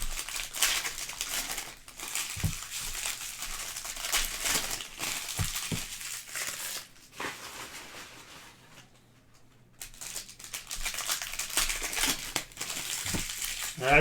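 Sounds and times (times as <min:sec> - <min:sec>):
card pack wrappers crinkling: 0:00.0 - 0:08.0, 0:09.8 - 0:14.0.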